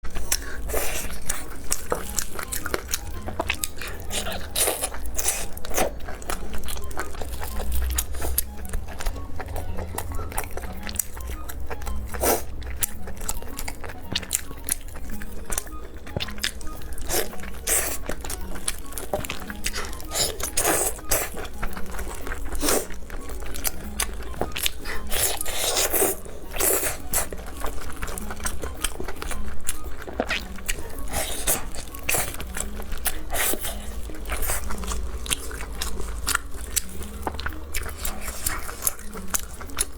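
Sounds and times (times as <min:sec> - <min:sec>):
crunching bites and chewing: 0:00.0 - 0:39.9.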